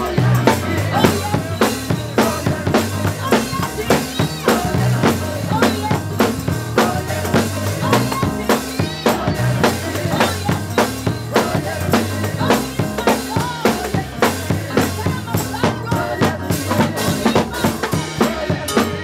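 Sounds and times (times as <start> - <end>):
drum kit beat: 0.0 - 19.0
gospel band playing: 0.0 - 19.0
man and woman singing: 0.0 - 19.0
tambourine: 0.0 - 19.0.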